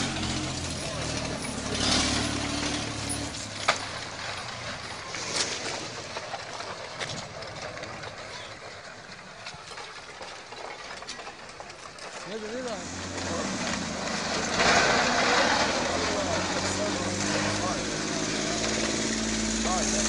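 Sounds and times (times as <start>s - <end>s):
landslide debris rumbling: 0.0s - 20.0s
sharp cracks and knocks: 0.0s - 20.0s.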